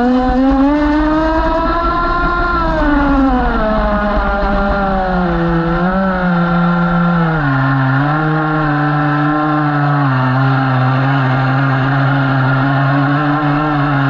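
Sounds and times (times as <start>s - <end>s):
model boat engine running: 0.0s - 14.0s.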